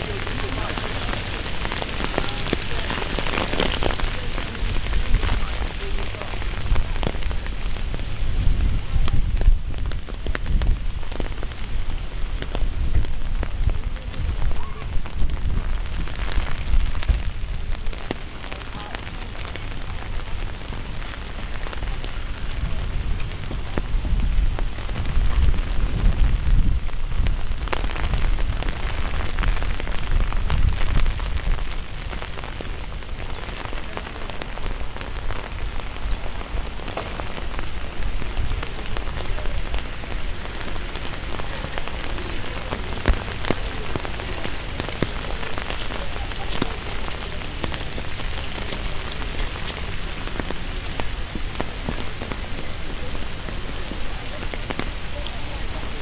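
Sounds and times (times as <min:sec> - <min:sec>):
raindrops ticking on surfaces: 0:00.0 - 0:56.0
steady rain falling: 0:00.0 - 0:56.0.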